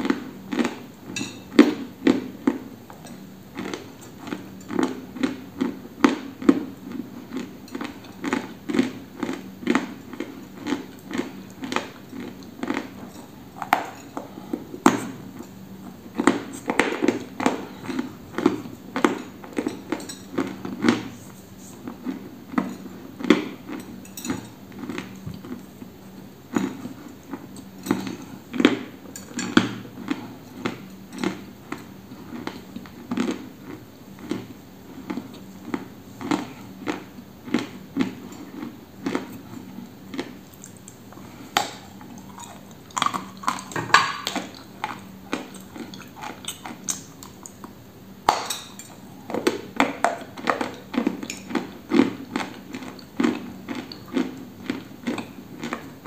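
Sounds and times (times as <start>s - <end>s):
crunching and chewing clay: 0.0s - 15.5s, 16.1s - 25.8s, 26.5s - 56.0s.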